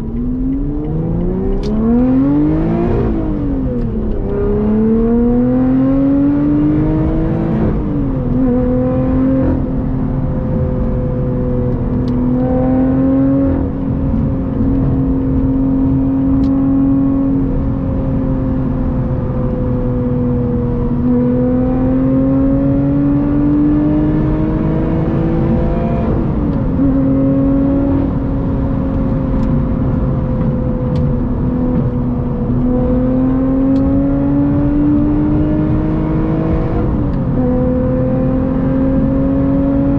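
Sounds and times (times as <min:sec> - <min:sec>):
car engine at highway speed: 0:00.0 - 0:39.9
road and tyre noise: 0:00.0 - 0:39.9.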